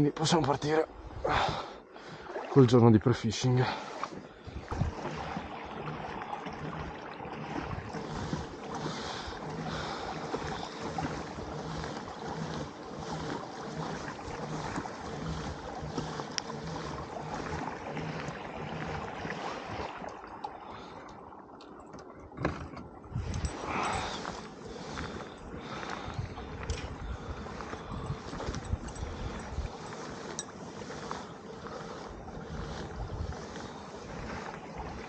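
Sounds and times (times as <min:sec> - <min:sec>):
water washing along hull: 0:00.0 - 0:35.0
low rhythmic pedal drive thump: 0:03.6 - 0:35.0.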